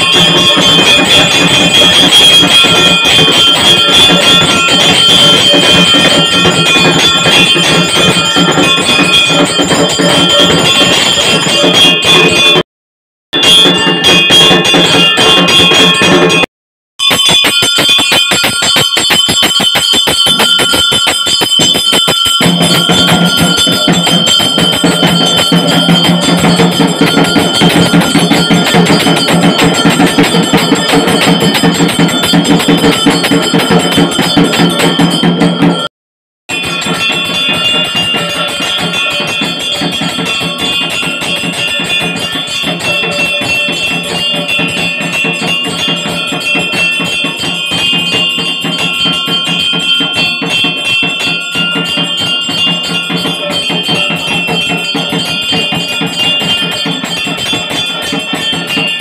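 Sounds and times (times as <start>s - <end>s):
hand bell ringing rapidly: 0.0s - 12.6s, 13.4s - 35.9s, 36.5s - 59.0s.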